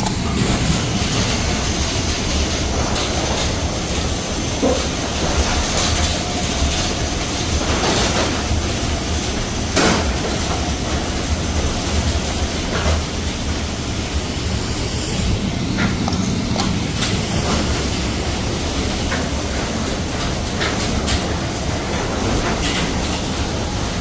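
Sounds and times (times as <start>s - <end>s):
garage door rolling rumble: 0.0s - 24.0s.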